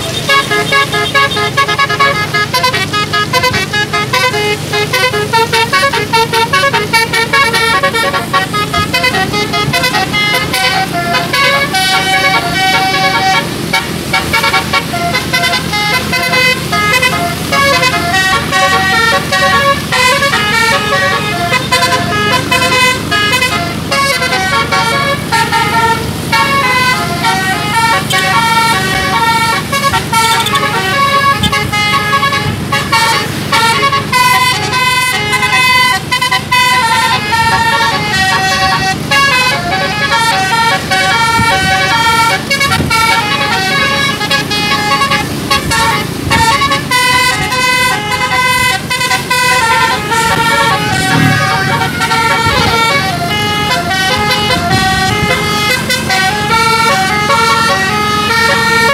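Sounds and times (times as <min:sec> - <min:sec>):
musical air horn tune: 0:00.0 - 0:58.9.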